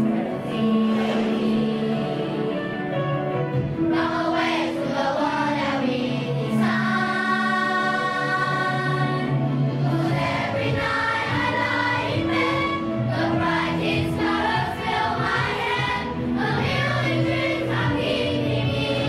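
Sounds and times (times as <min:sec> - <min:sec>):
children's choir singing: 0:00.0 - 0:03.1, 0:03.8 - 0:19.0.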